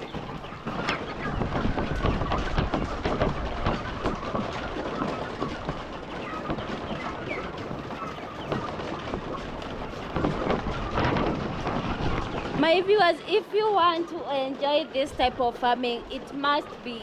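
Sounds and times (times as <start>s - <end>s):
chickens clucking: 0.0s - 17.0s
chickens pecking at feed: 0.0s - 17.0s.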